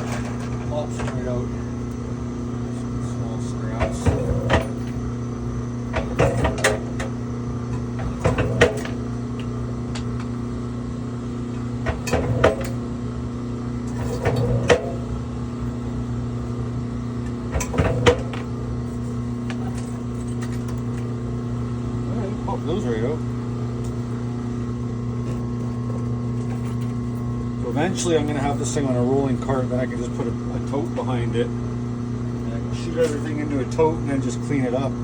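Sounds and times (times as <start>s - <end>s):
wire-stripping machine humming: 0.0s - 35.0s.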